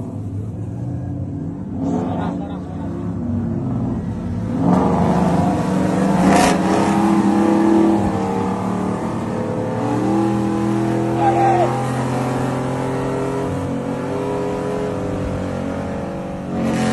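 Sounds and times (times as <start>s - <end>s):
truck engines accelerating hard: 0.0s - 16.9s.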